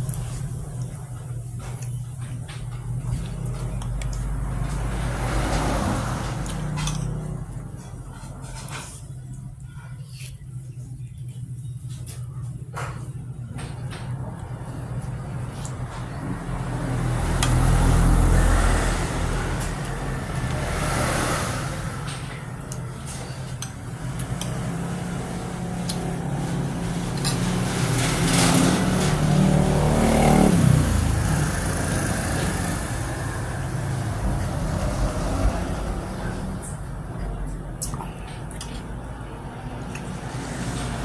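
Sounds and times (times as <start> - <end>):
vehicle engines running: 0.0 - 41.0.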